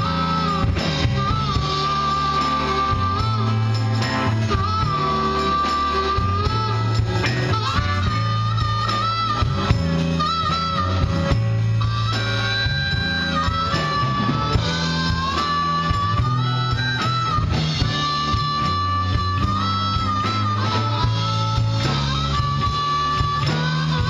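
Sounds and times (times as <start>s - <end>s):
blues-rock band playing: 0.0s - 24.0s
harmonica bent notes: 0.0s - 24.0s.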